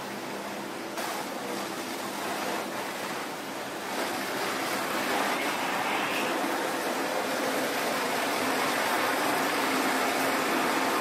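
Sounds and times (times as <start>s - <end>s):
fire hoses spraying water: 0.0s - 11.0s.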